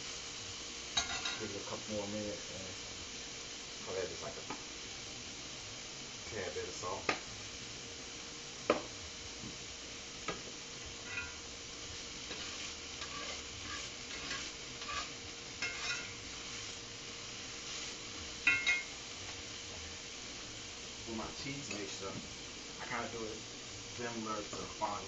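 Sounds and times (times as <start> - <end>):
broccoli sizzling in a pan: 0.0 - 25.0.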